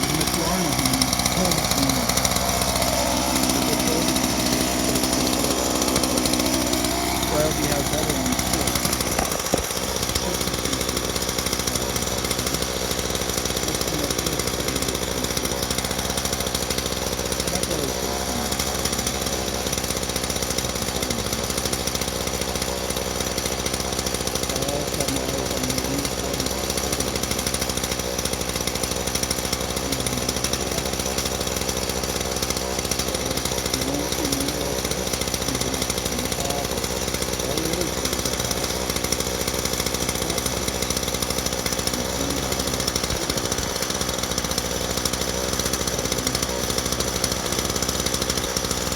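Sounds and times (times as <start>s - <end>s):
chainsaw running: 0.0s - 48.9s.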